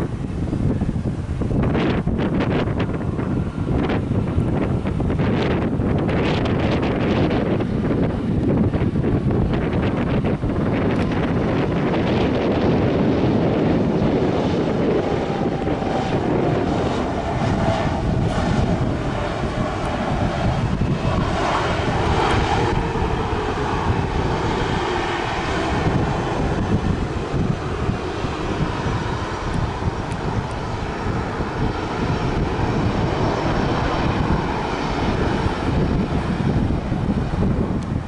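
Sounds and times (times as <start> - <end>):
airliner engines running: 0.0 - 38.0
wind buffeting microphone: 0.0 - 38.0.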